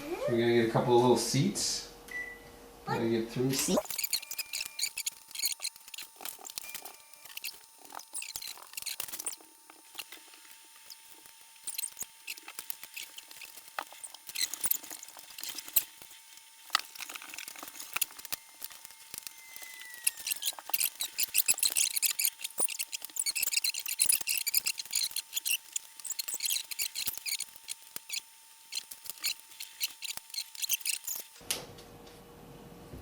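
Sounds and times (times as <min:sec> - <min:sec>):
plastic blocks clicking and clattering: 0:03.8 - 0:31.4.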